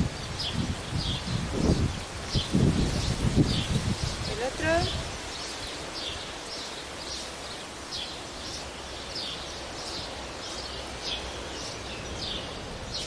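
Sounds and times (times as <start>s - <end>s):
outdoor background noise: 0.0s - 13.0s
bird chirping: 0.1s - 13.0s.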